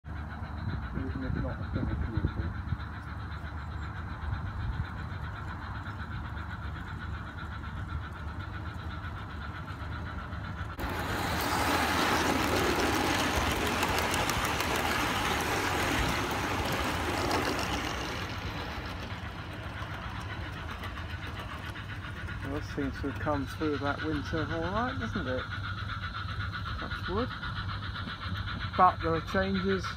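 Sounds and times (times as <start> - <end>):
small train rumbling on rails: 0.0 - 29.9.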